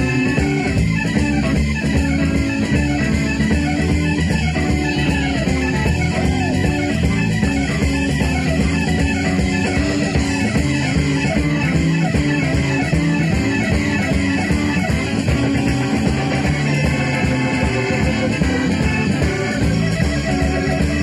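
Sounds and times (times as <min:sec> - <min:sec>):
bass guitar: 0:00.0 - 0:21.0
electric guitars: 0:00.0 - 0:21.0
steady drum beat: 0:00.0 - 0:21.0.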